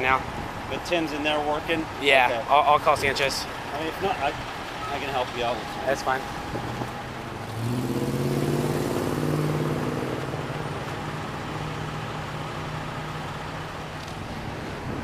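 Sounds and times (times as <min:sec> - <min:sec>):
street traffic noise: 0:00.0 - 0:15.0
vehicle engine humming: 0:00.0 - 0:15.0.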